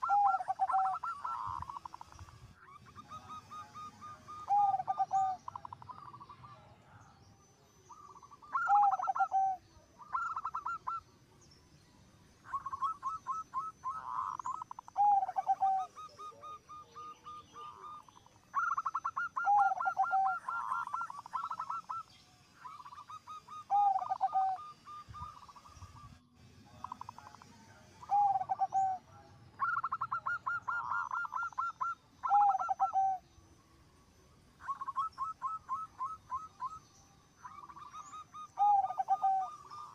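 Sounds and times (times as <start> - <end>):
dove cooing: 0.0 - 11.1, 12.4 - 33.2, 34.6 - 39.9.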